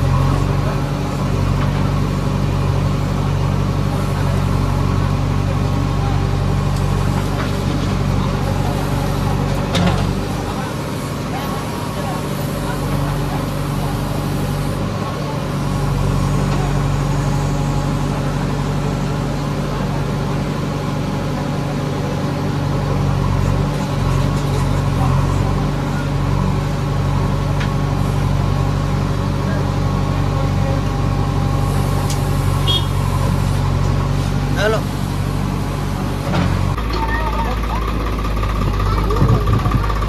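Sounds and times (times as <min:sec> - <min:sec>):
backhoe digging dirt: 0:00.0 - 0:40.0
diesel engine under load: 0:00.0 - 0:40.0.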